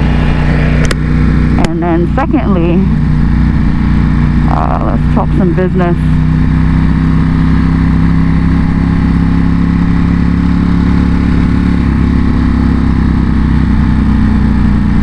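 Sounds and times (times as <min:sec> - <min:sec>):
motorcycle engine steady drone: 0:00.0 - 0:15.0.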